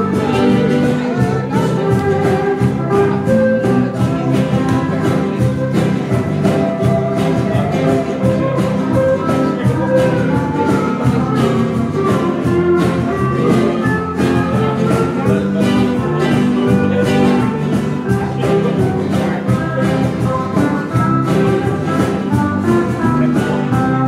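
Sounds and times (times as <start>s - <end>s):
live band music with steel guitar: 0.0s - 24.0s.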